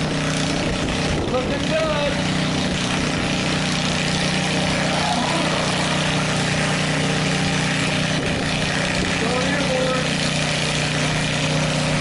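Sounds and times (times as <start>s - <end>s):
lawn tractor engine running under load: 0.0s - 12.0s.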